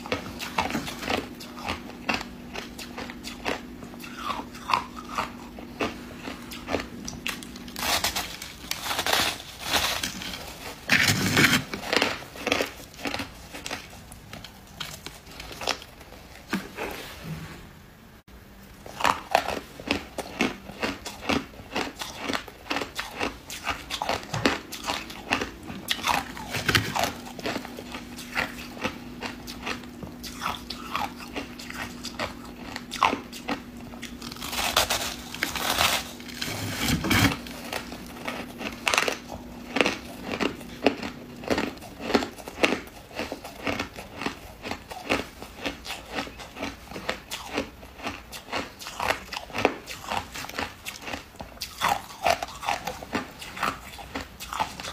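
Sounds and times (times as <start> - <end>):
ice being chewed: 0.0 - 17.0, 18.8 - 54.9.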